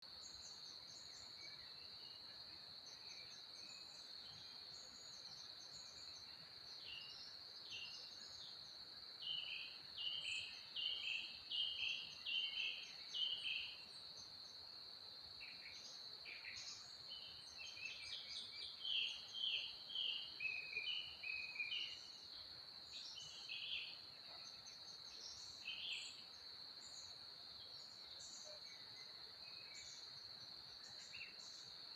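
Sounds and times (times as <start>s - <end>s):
songbird singing: 0.0s - 31.9s.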